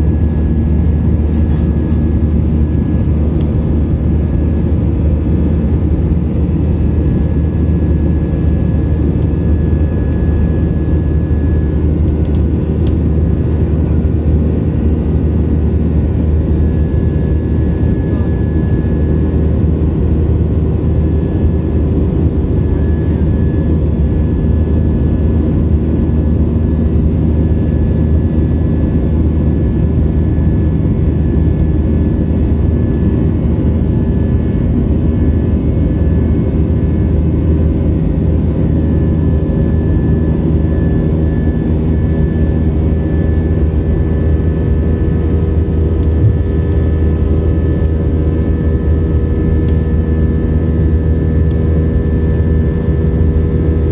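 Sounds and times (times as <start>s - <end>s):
airliner cabin drone: 0.0s - 53.9s.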